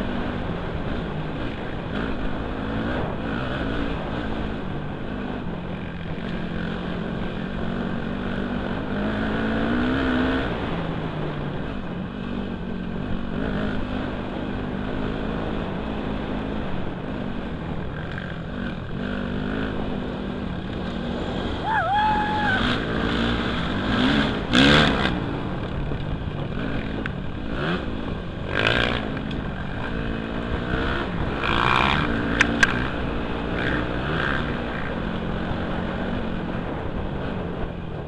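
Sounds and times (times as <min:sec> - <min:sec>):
dirt bike engine revving: 0:00.0 - 0:37.6.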